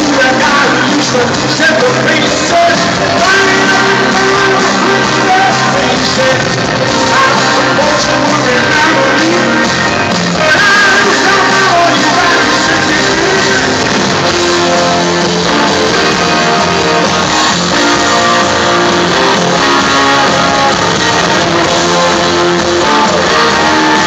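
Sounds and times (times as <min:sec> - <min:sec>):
drums: 0:00.0 - 0:24.0
electric guitars: 0:00.0 - 0:24.0
keyboards: 0:00.0 - 0:24.0.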